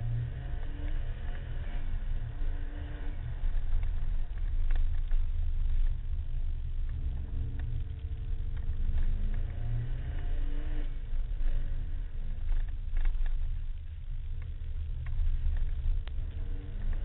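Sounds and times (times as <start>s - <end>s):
car engine running hard: 0.0s - 17.0s
road and tyre rumble: 0.0s - 17.0s.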